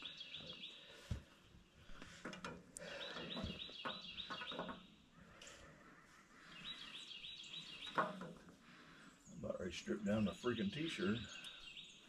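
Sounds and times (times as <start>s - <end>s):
bird chirping: 0.0s - 2.0s, 2.8s - 12.0s.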